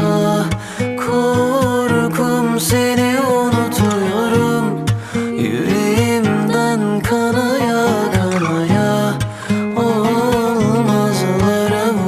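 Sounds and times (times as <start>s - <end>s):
plucked acoustic guitar: 0.0s - 12.0s
slow song melody: 0.0s - 12.0s.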